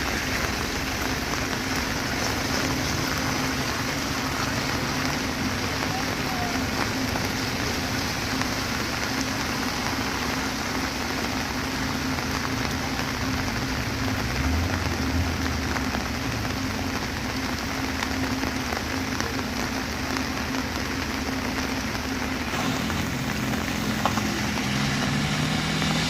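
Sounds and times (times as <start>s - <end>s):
constant hiss: 0.0s - 26.0s
vehicle engine hum: 0.0s - 26.0s.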